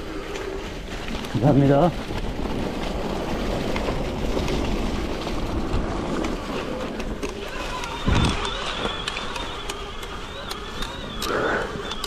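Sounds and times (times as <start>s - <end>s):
wind and tyre rumble: 0.0s - 12.0s.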